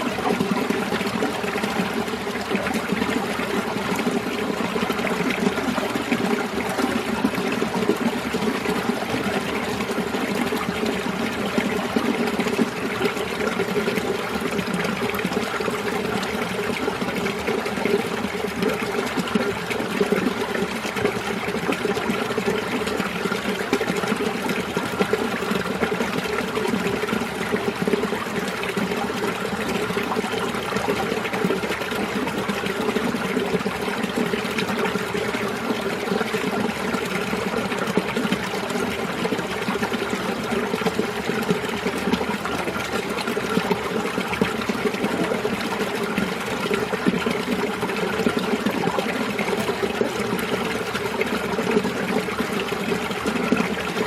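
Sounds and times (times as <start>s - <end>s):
stream water running over rocks: 0.0s - 54.0s.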